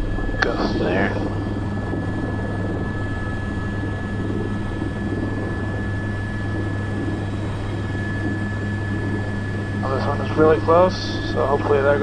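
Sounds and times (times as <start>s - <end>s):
helicopter rotor and turbine drone: 0.0s - 12.0s
high turbine whine: 0.0s - 12.0s.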